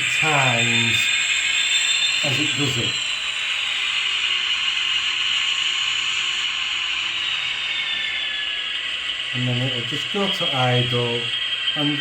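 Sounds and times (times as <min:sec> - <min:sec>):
model train motor whirring: 0:00.0 - 0:12.0
simulated locomotive engine sound: 0:00.0 - 0:12.0.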